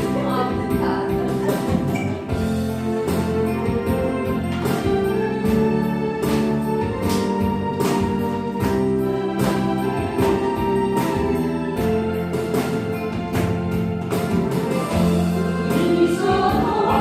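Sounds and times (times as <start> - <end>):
sustained keyboard chords: 0.0 - 17.0.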